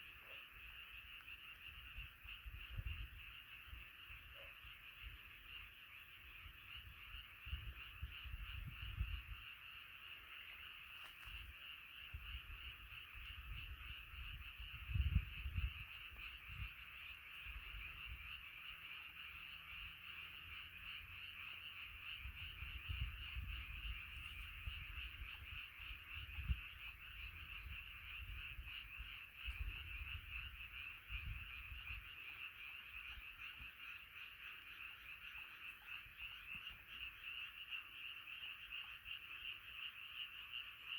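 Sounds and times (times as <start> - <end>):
frogs croaking in chorus: 0.0 - 40.9.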